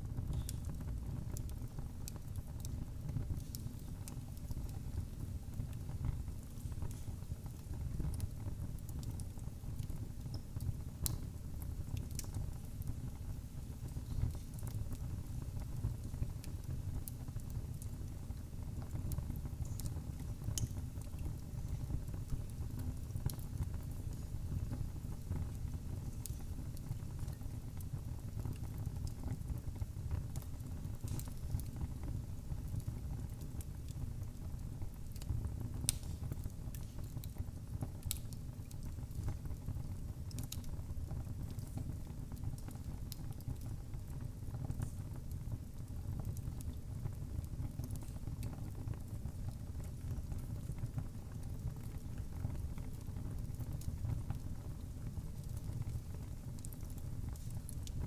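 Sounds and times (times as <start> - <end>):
fire crackling and popping: 0.0 - 58.0
wood fire burning: 0.0 - 58.0.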